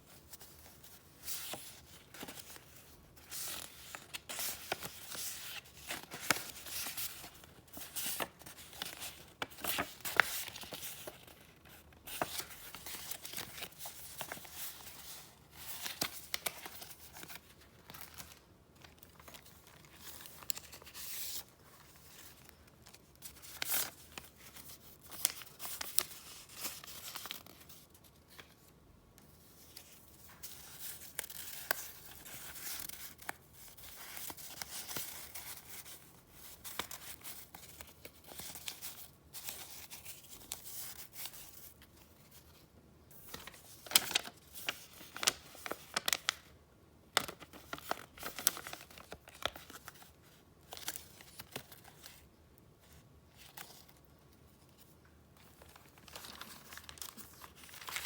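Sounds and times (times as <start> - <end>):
paper rustling and crackling: 0.1 - 28.7, 29.6 - 46.5, 47.1 - 58.0.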